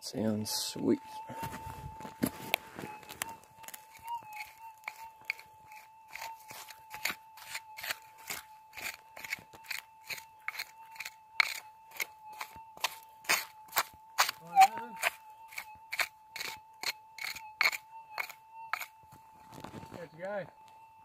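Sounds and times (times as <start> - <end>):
metal detector steady tone: 0.0 - 21.0
hand tool raking gravel: 0.2 - 20.1.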